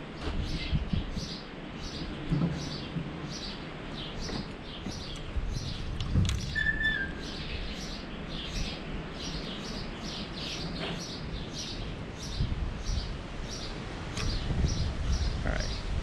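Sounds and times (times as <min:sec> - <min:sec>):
bird chirping: 0:00.2 - 0:15.9.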